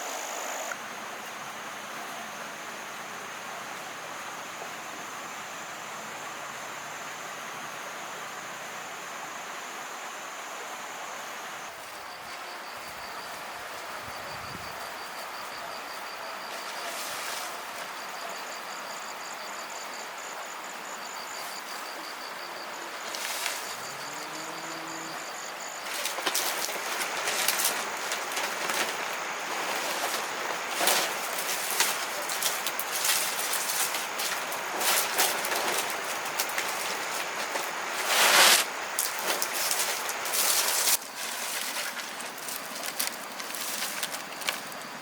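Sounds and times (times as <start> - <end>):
insects trilling: 0.0 - 45.0
outdoor hiss: 0.0 - 45.0.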